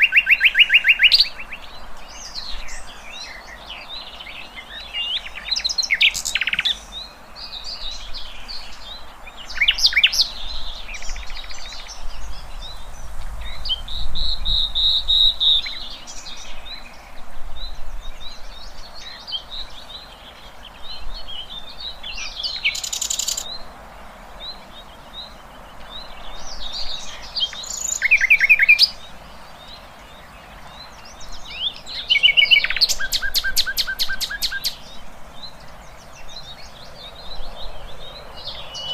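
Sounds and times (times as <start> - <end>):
background hiss: 0.0 - 38.9
songbirds chirping and singing: 0.0 - 38.9.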